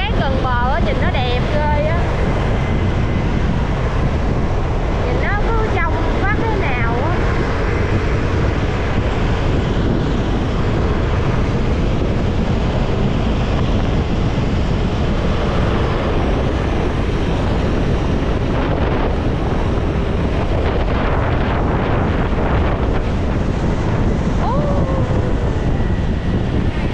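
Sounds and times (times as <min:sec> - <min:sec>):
motorcycle running: 0:00.0 - 0:26.9
wind buffeting microphone: 0:00.0 - 0:26.9.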